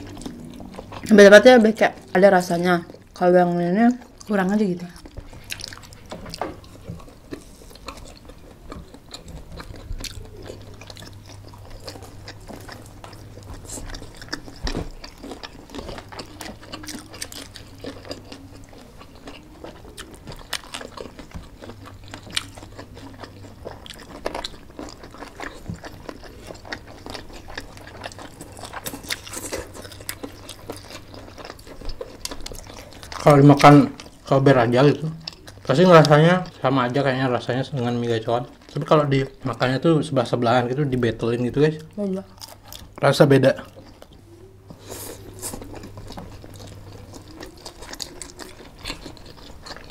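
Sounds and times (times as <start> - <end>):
faint low hum: 0.0 - 49.9
people chewing and smacking: 0.0 - 49.9.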